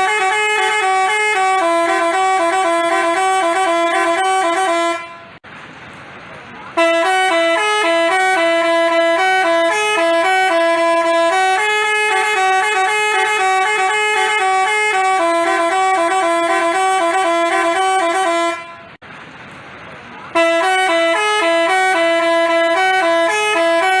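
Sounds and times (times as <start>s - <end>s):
multi-tone bus horn melody: 0.0s - 5.4s, 6.7s - 19.0s, 20.3s - 24.0s.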